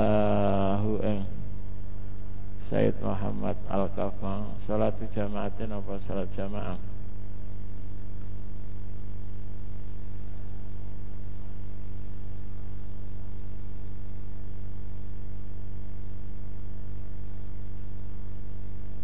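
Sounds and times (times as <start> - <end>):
low electrical hum with hiss: 0.0 - 19.0.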